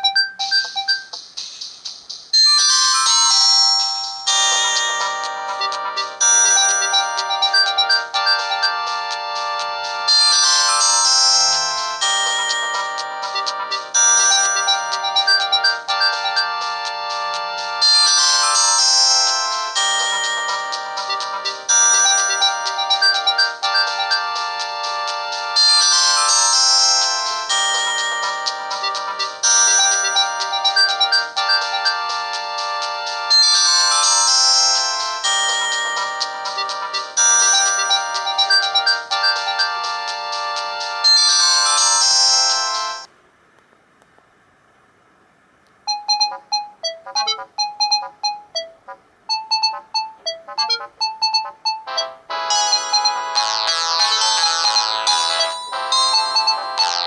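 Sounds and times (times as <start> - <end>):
mobile phone ringtone melody: 0.0 - 1.2, 2.3 - 43.1, 45.9 - 57.0.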